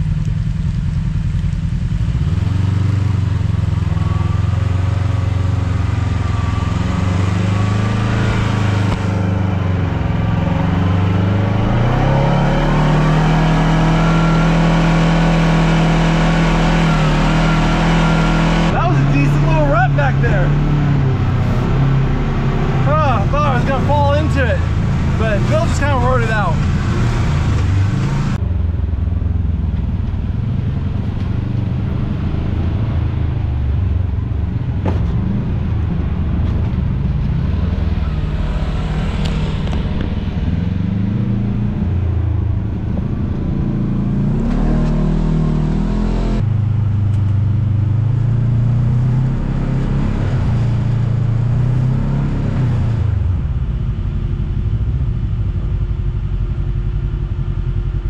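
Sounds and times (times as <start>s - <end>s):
utility vehicle engine revving: 0.0s - 55.7s.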